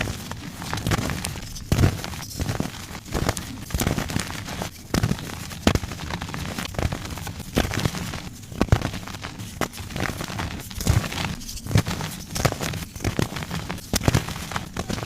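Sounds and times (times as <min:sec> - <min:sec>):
chalk blocks crunching: 0:00.0 - 0:15.0
fine crackling of chalk: 0:00.0 - 0:15.0.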